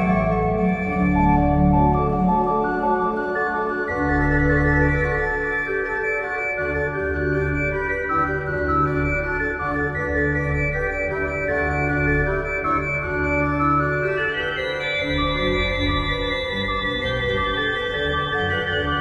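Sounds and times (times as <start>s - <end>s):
organ chords over bass notes: 0.0s - 19.0s.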